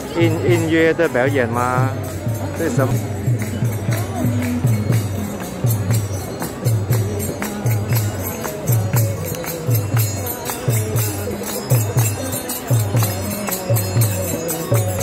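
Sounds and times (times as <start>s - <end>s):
jingling tambourine percussion: 0.0s - 15.0s.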